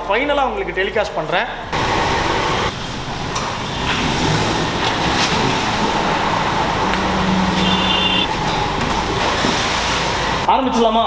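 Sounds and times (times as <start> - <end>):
road traffic noise: 0.0 - 10.5.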